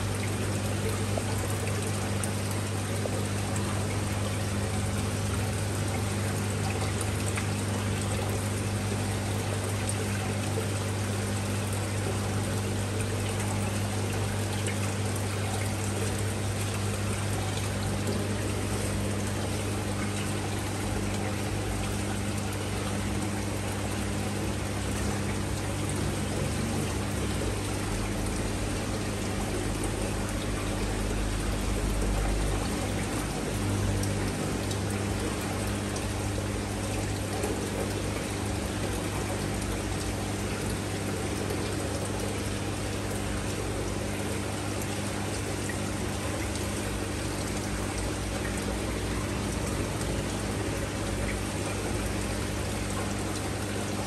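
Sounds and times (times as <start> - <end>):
constant low hum: 0.0 - 54.0
water pouring and trickling: 0.0 - 54.0.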